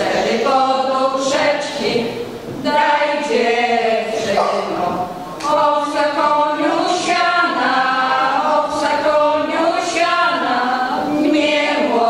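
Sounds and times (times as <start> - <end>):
women's choir singing unaccompanied: 0.0 - 12.0.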